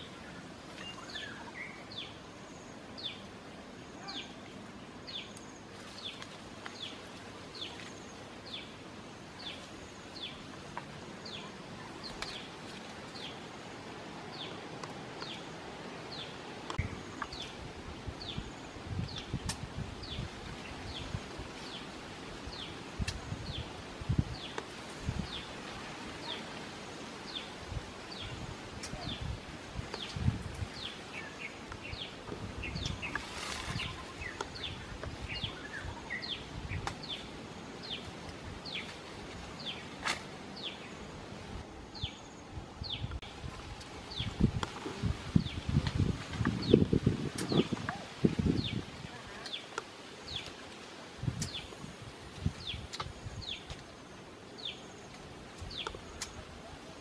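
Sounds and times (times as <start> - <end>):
leaves rustling: 0.0 - 57.0.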